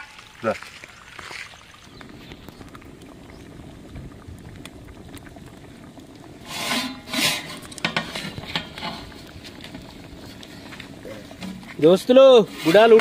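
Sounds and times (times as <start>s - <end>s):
pot boiling and bubbling: 0.0s - 13.0s.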